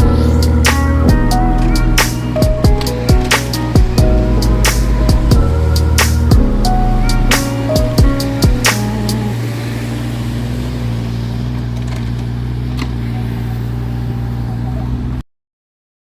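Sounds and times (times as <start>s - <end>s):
diesel engine droning: 0.0s - 15.2s.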